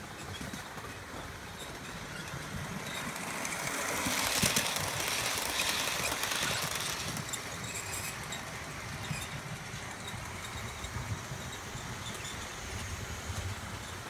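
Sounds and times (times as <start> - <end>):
model train wheels rumbling: 0.0 - 14.0.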